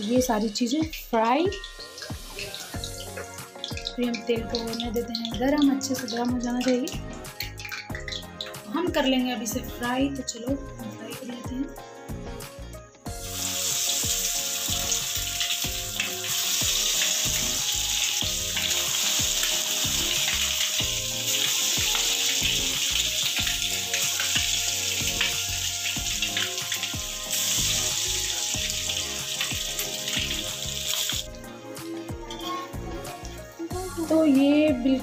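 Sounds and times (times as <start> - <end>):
batter sizzling in hot oil: 0.0 - 9.7, 13.1 - 31.5.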